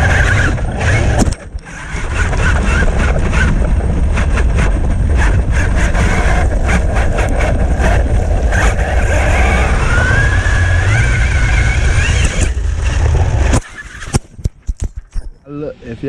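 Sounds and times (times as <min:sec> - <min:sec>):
electric motor whine: 0:00.0 - 0:14.2
rc truck low rumble: 0:00.0 - 0:15.4.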